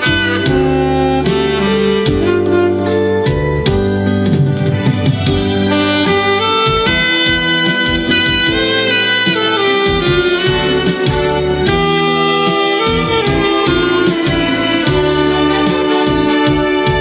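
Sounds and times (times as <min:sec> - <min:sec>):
backing track with bass and drums: 0:00.0 - 0:17.0
saxophone slow melody: 0:00.0 - 0:17.0.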